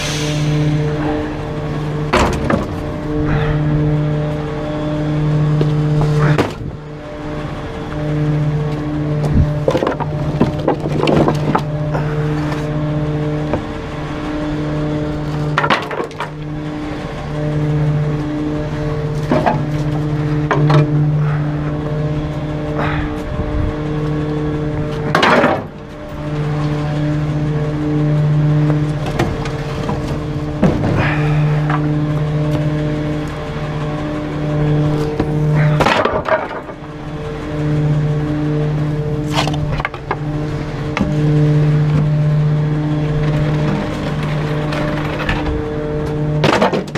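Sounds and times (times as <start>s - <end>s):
hydraulic drone: 0.0s - 46.9s
truck engine humming: 0.0s - 46.9s.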